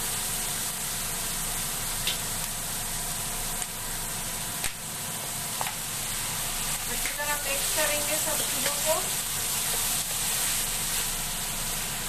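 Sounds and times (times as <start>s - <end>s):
rice sizzling in a wok: 0.0s - 12.0s.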